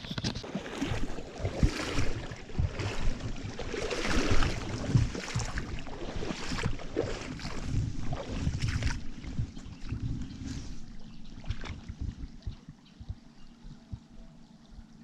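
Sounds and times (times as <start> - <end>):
creek water sloshing and splashing: 0.1 - 13.0.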